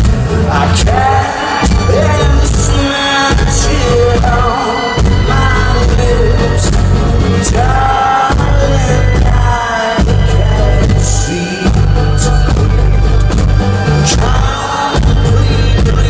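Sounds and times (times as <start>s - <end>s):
live rock band: 0.0s - 16.0s.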